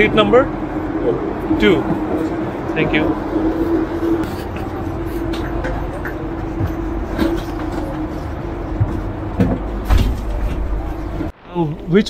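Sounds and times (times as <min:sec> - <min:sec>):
stationary train hum: 0:00.0 - 0:12.0.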